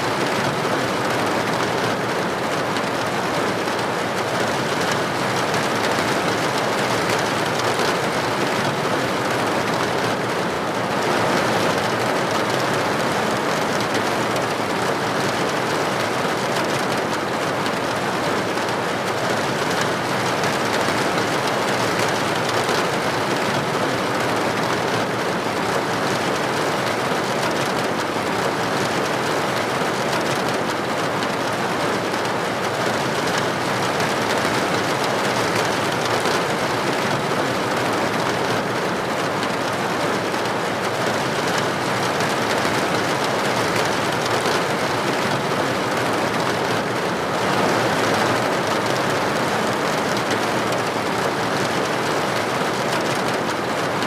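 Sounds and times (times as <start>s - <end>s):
rain pattering on a surface: 0.1s - 54.0s.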